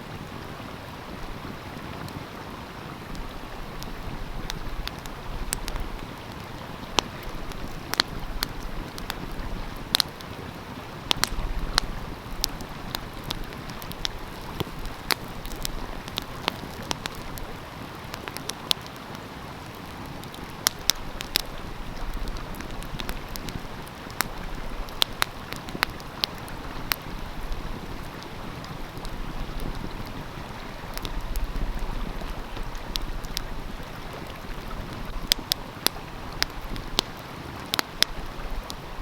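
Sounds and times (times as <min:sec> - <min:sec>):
wind rumble on microphone: 0:00.0 - 0:18.0, 0:20.2 - 0:37.0
stream flowing: 0:00.0 - 0:39.0
wood fire crackling and popping: 0:00.2 - 0:39.0.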